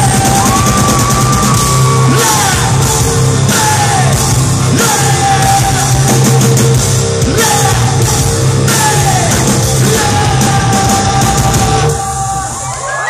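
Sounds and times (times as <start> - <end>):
person singing long notes: 0.0 - 6.4, 7.2 - 13.0
rock band playing: 0.0 - 13.0.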